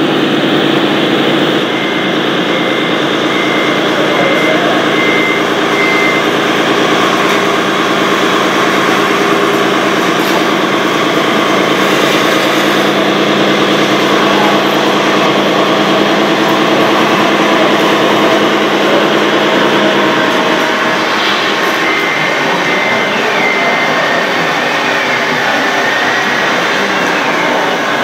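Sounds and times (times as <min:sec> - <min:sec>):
high motor whine: 0:00.0 - 0:28.0.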